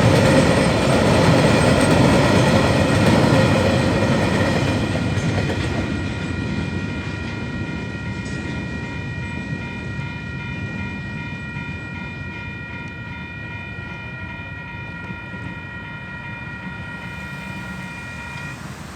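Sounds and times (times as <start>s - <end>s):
crossing warning bells ringing: 0.0s - 18.9s
train wagons rumbling past: 0.0s - 18.9s.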